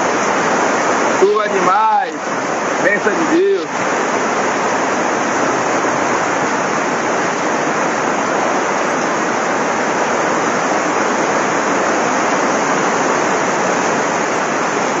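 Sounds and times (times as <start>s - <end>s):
floodwater rushing: 0.0s - 15.0s
heavy rain pouring: 0.0s - 15.0s.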